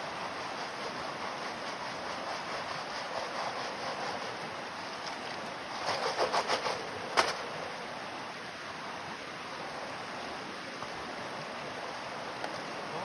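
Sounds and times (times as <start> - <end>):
running stream water: 0.0 - 13.0.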